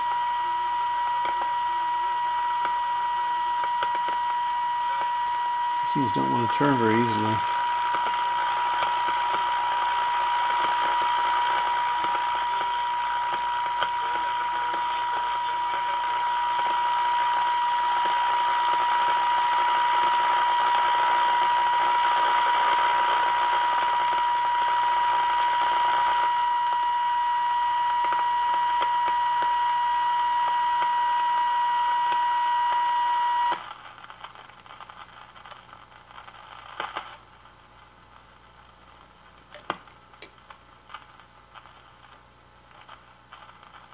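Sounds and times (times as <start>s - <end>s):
steady tone from radio speaker: 0.0s - 43.9s.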